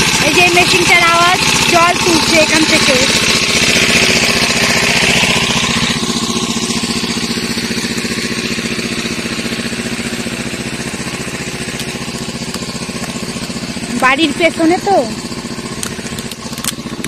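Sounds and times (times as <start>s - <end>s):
water pump engine chugging: 0.0s - 17.0s.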